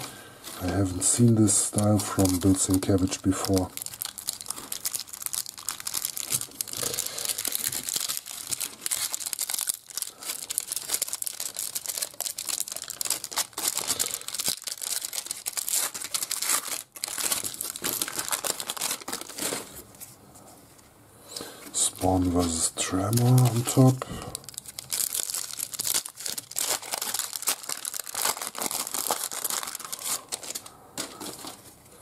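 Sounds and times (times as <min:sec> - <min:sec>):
foil wrapper crinkling and tearing: 0:00.6 - 0:19.8, 0:21.7 - 0:31.7.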